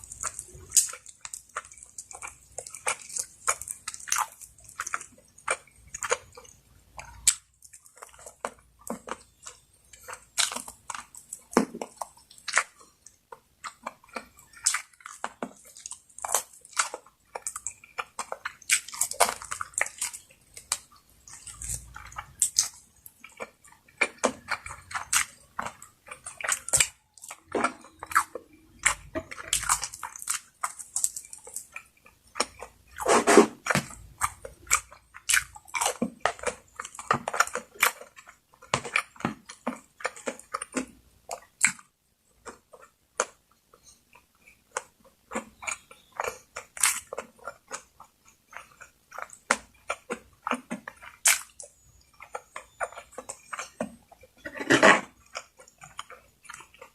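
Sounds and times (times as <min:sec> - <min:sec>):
person chewing and biting food: 0:00.0 - 0:56.9.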